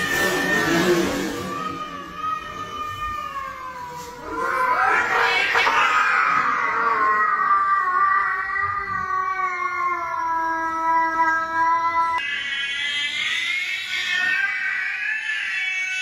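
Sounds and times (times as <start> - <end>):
cat yowling low: 0.0 - 16.0
high-pitched cat yowl: 0.0 - 16.0.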